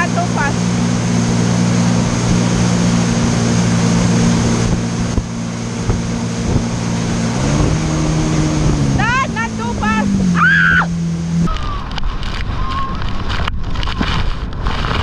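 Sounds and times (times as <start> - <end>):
jet ski engine running: 0.0 - 15.0
wind noise: 0.6 - 10.2, 11.4 - 15.0.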